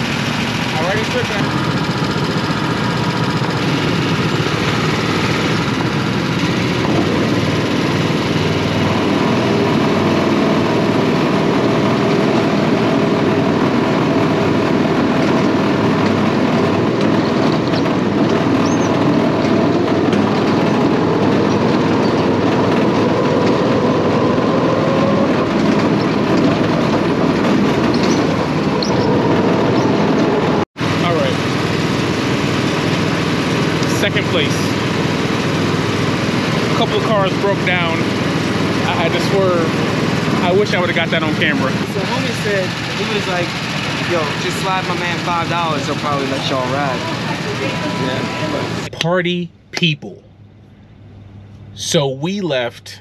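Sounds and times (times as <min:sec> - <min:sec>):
go-kart engines running: 0:00.0 - 0:48.9.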